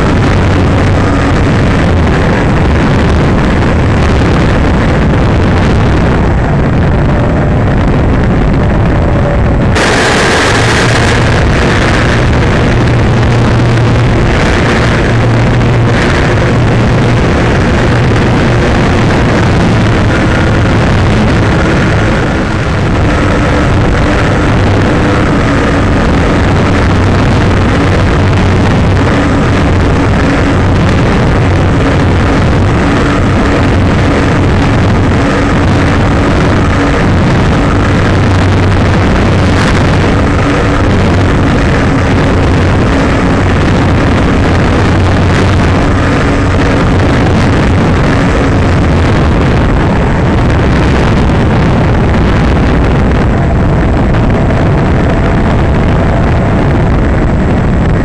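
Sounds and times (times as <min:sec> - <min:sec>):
electric motor and propeller whine: 0:00.0 - 0:58.0
wind rush on microphone: 0:00.0 - 0:58.0.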